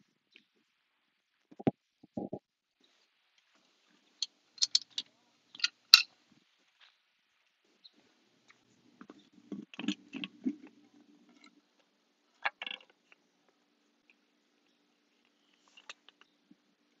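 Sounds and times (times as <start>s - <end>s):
faint pool pump hum: 0.0s - 17.0s.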